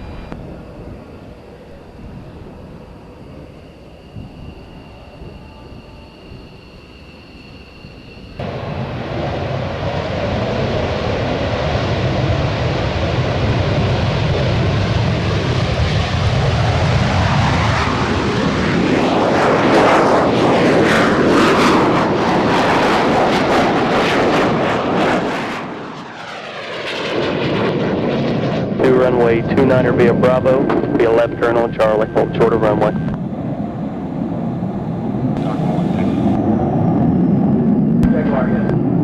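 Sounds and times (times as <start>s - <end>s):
jet engine roar: 0.0s - 39.0s.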